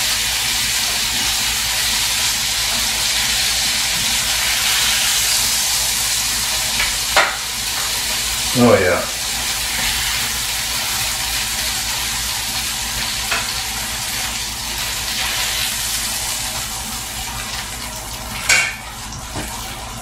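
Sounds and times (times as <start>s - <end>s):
chicken sizzling in a skillet: 0.0s - 20.0s.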